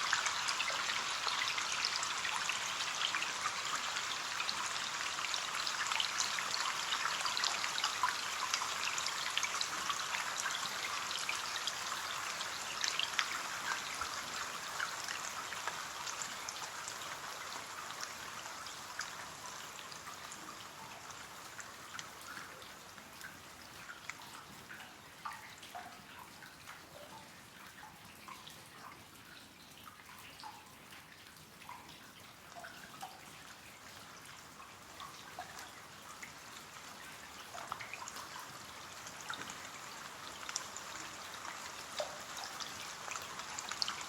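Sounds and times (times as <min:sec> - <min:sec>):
rain on window glass: 0:00.0 - 0:44.0.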